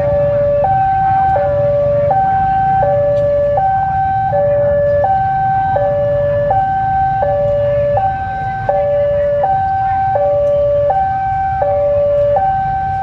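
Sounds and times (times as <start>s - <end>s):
diesel locomotive rumble: 0.0s - 13.0s
two-tone railway warning alarm: 0.0s - 13.0s.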